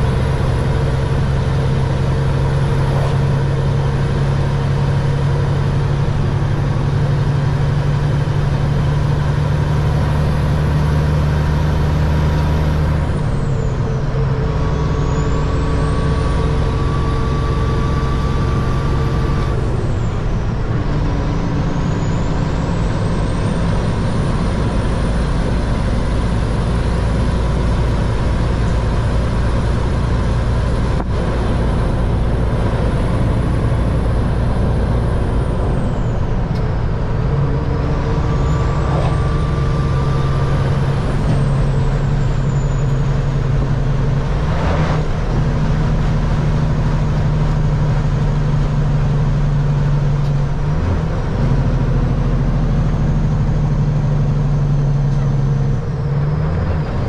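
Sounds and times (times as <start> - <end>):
truck diesel engine rumbling: 0.0 - 57.0.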